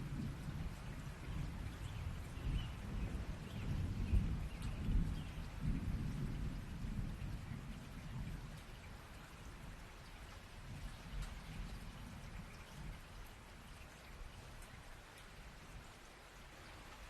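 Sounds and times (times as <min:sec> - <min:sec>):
low rumble of thunder: 0:00.0 - 0:15.9
steady rain: 0:00.0 - 0:17.0
raindrop ticks: 0:00.1 - 0:16.2.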